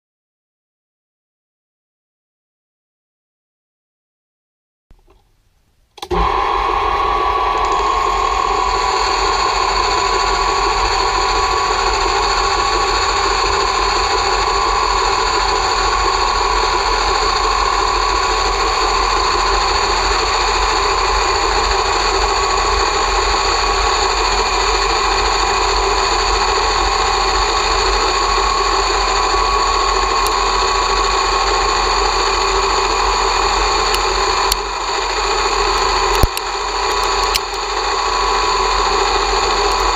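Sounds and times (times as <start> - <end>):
lathe whining: 6.0 - 39.9.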